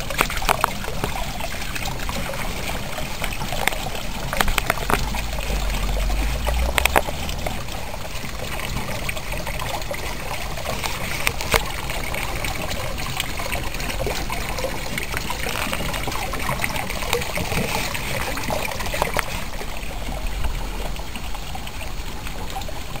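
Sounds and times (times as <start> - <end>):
water trickling into pond: 0.0 - 23.0.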